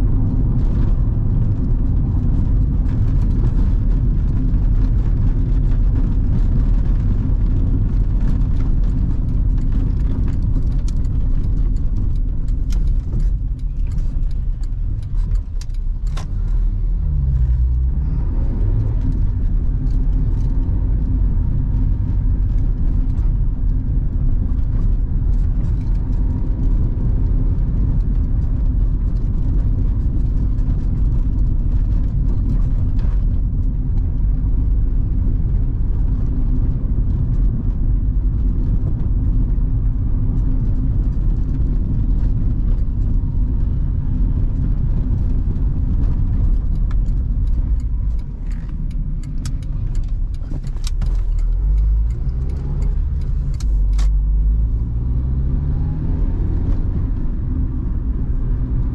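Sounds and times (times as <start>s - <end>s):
car engine running: 0.0s - 58.9s
tyres rumbling over cobblestones: 0.0s - 58.9s.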